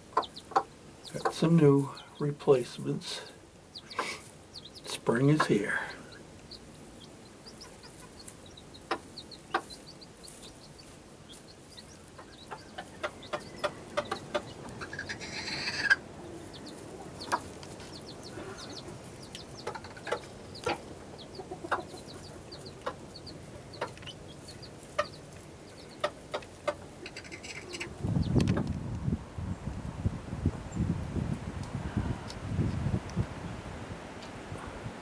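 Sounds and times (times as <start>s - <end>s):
chickens clucking: 0.0s - 28.8s.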